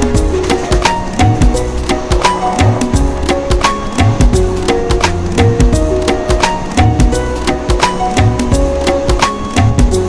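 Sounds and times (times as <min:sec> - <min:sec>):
drums on a steady beat: 0:00.0 - 0:10.0.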